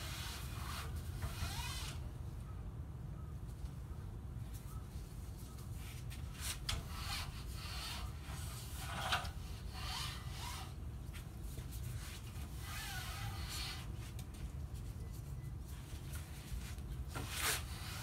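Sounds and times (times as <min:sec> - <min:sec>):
cloth rubbing screen door: 0:00.0 - 0:02.4, 0:04.5 - 0:18.0.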